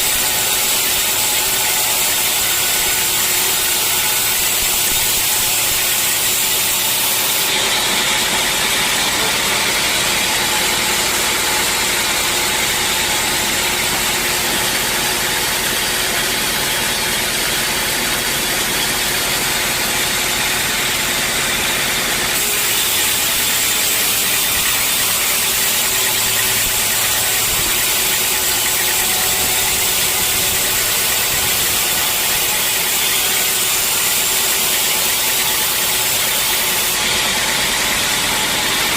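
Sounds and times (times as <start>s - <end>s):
sawmill saw running: 0.0s - 38.9s.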